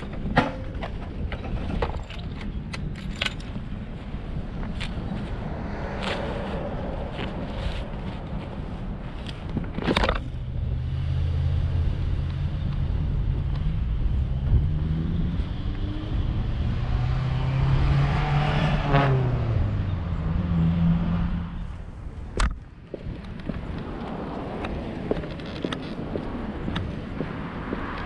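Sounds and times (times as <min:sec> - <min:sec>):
vehicle passing on road: 0:03.5 - 0:28.0.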